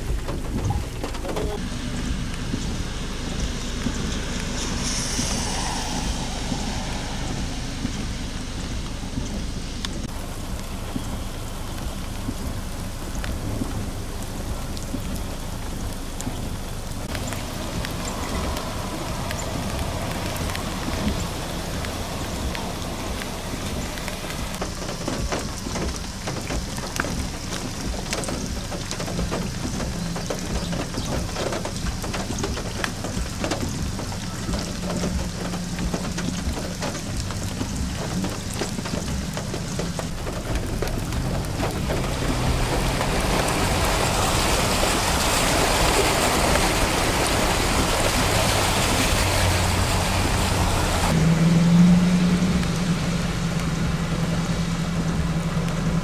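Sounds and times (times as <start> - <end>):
engine hum: 0.0 - 56.0
heavy rain on water: 0.0 - 56.0.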